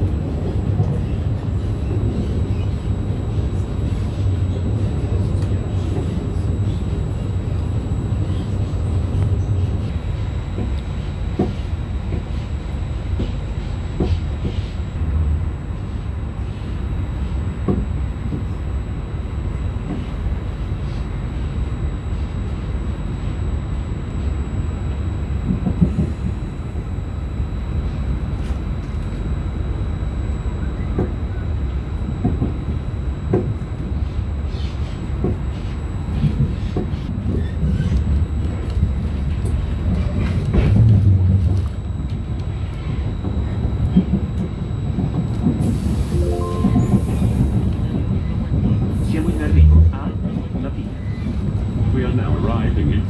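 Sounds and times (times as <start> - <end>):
train rumbling and rolling: 0.0 - 53.0.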